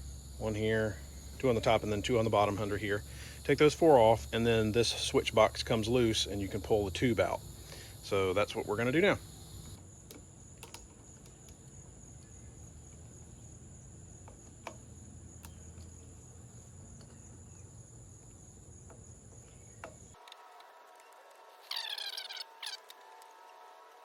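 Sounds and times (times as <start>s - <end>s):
insects chirring: 0.0s - 20.2s, 21.6s - 22.8s.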